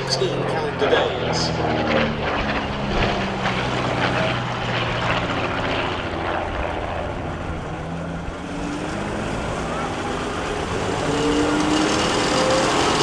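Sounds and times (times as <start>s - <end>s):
propeller aircraft engines droning: 0.0s - 13.0s.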